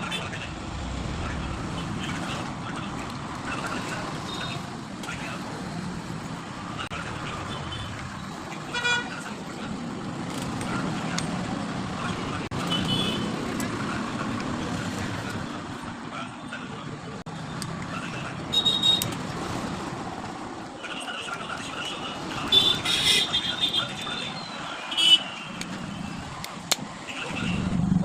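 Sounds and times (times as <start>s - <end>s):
traffic noise: 0.0s - 28.0s.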